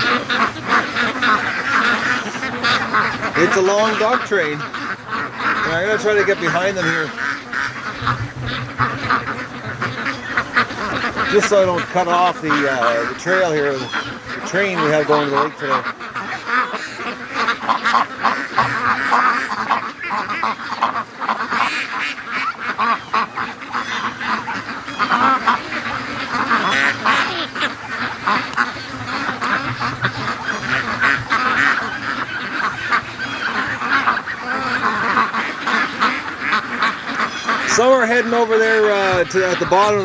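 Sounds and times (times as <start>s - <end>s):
ducks quacking: 0.0s - 40.0s.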